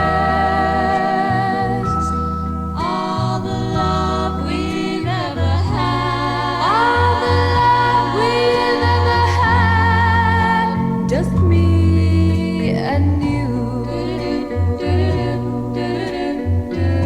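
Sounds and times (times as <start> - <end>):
bass line: 0.0 - 17.0
slow song with vocal harmonies: 0.0 - 17.0.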